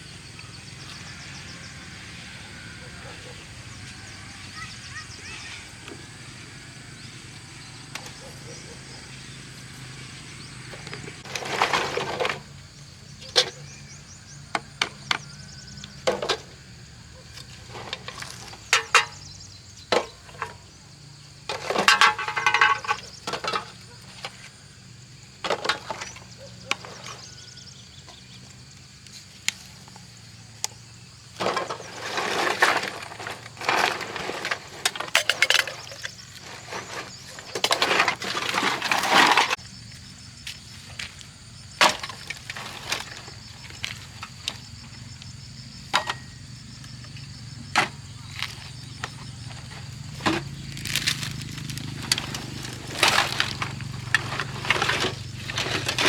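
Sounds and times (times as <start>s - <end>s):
scraping and rattling scrap: 7.0s - 30.2s, 30.8s - 39.6s, 40.6s - 56.0s.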